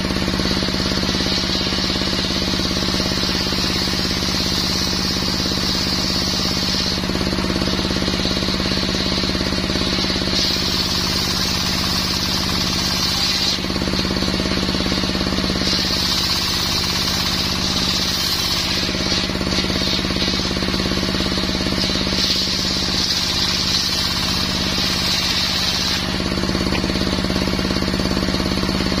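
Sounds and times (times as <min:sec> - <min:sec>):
brush-cutter saw cutting wood: 0:00.0 - 0:29.0.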